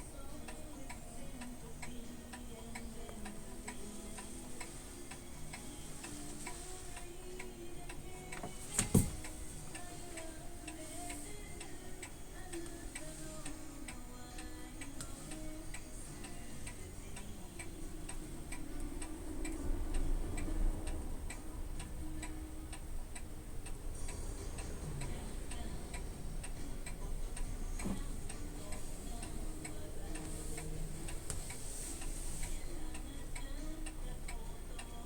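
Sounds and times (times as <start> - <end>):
steady ticking: 0.0 - 35.0.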